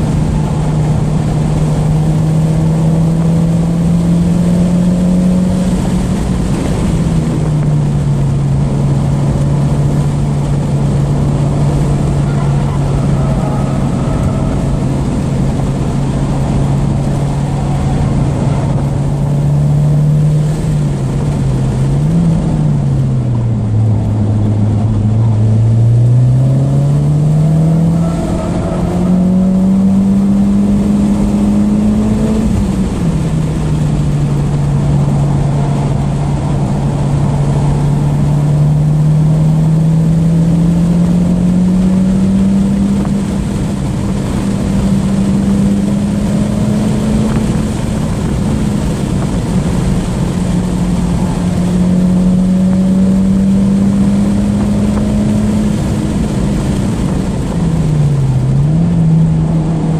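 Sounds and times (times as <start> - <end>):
car engine at speed: 0.0 - 59.9
road and wind noise: 0.0 - 59.9.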